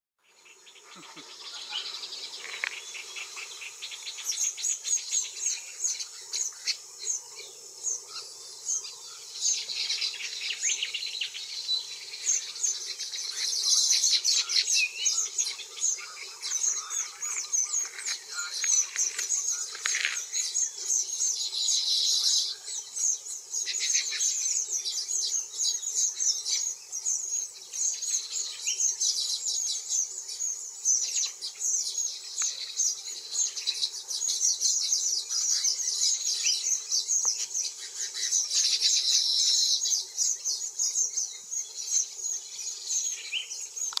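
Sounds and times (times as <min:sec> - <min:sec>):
birds chattering: 0:00.3 - 0:44.0.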